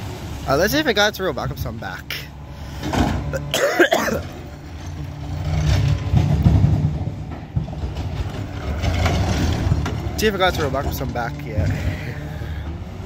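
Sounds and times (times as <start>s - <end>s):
garbage truck diesel engine rumble: 0.0s - 13.0s.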